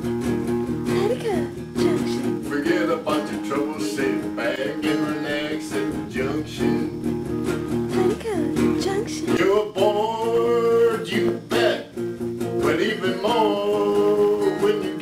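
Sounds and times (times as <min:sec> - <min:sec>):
electric guitar playing blues: 0:00.0 - 0:15.0.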